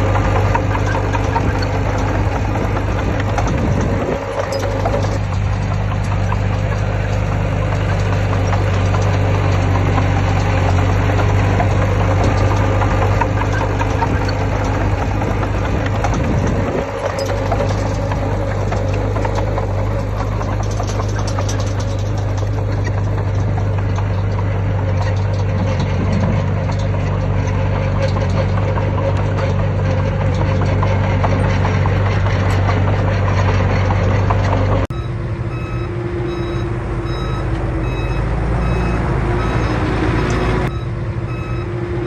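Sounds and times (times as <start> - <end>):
diesel engine running with rattle: 0.0 - 42.0.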